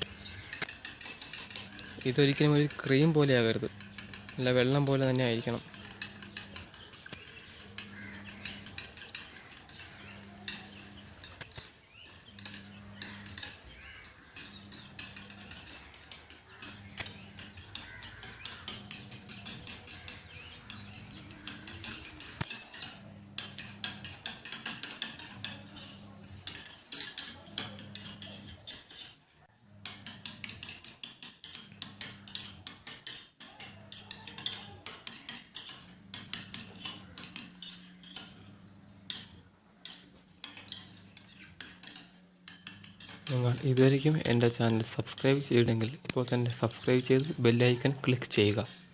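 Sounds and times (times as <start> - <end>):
spoon clinking in a bowl: 0.2 - 29.2, 29.8 - 48.9.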